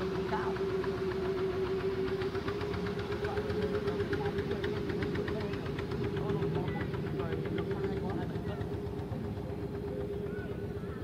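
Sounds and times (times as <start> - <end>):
boat engine humming and knocking: 0.0 - 11.0.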